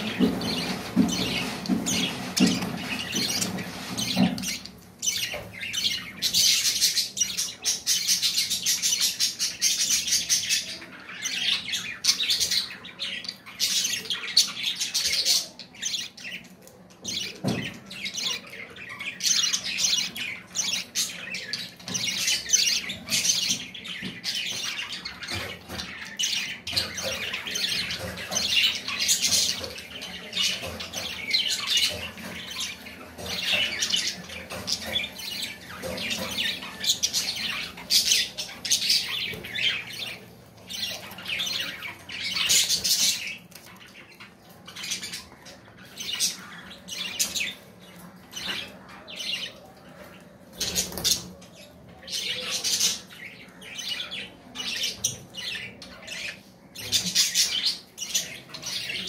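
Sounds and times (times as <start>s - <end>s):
budgerigars chattering and squawking: 0.0s - 59.0s.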